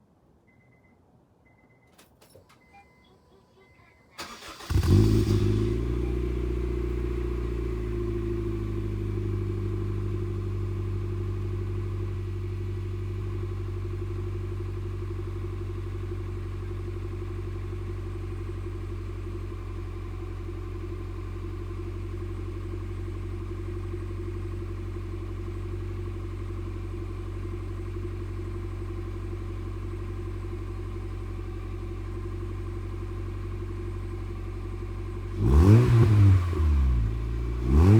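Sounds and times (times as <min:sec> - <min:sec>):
car engine starting and idling: 0:01.9 - 0:37.9.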